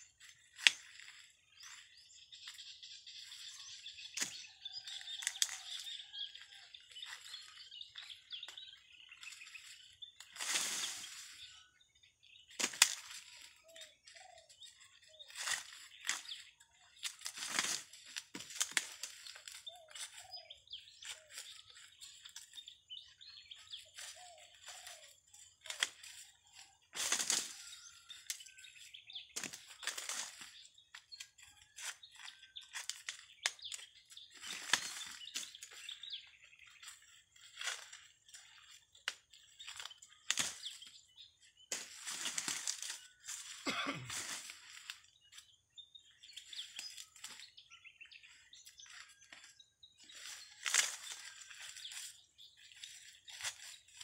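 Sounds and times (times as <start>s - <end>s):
dry corn husks rustling and crackling: 0.0s - 54.0s.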